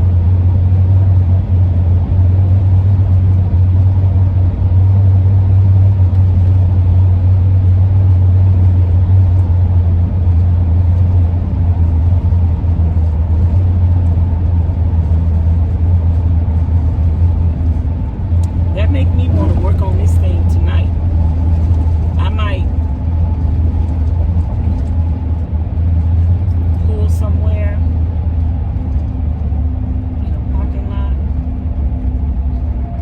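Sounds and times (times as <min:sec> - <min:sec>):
road noise: 0:00.0 - 0:33.0
van cabin hum: 0:00.0 - 0:33.0.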